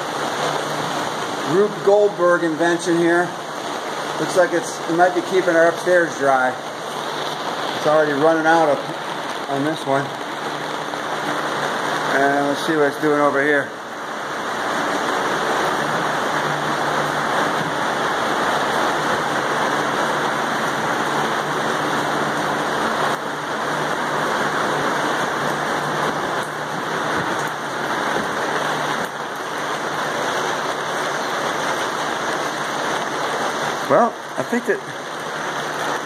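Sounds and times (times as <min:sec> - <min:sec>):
rain pattering on plastic sheeting: 0:00.0 - 0:36.0.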